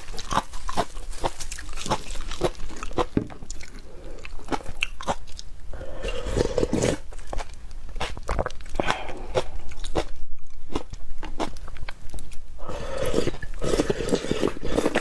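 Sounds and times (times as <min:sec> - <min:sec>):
person crunching and chewing: 0:00.0 - 0:15.0.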